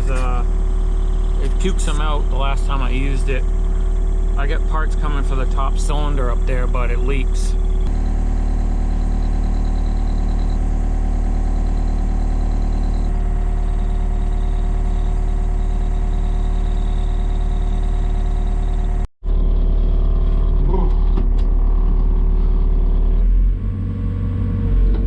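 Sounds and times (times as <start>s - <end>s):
excavator diesel engine idling: 0.0s - 25.0s.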